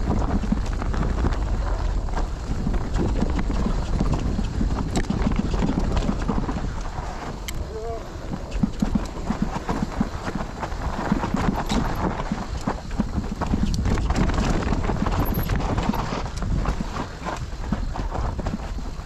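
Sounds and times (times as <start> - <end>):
bike rattling over rough trail: 0.0 - 19.0
steady low rumble: 0.0 - 19.0.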